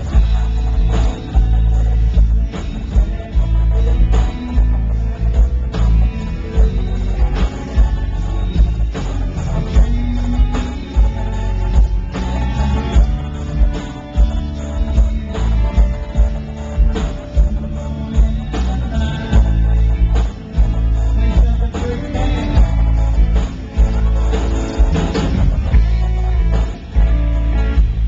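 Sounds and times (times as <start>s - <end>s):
man singing: 0.0s - 23.5s
acoustic guitar strumming: 0.0s - 28.0s
electric guitar: 0.0s - 28.0s
steady drum beat: 0.0s - 28.0s.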